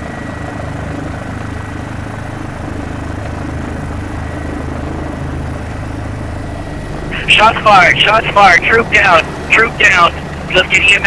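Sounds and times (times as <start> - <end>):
helicopter rotor and engine noise: 0.0 - 11.0
thin steady whine: 0.0 - 11.0.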